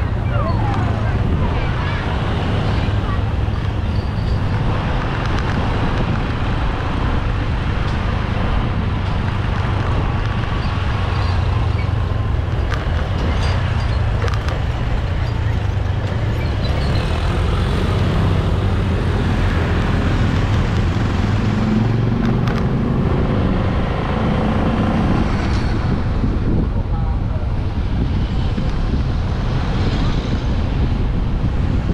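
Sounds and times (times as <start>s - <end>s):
road and tyre noise: 0.0s - 31.9s.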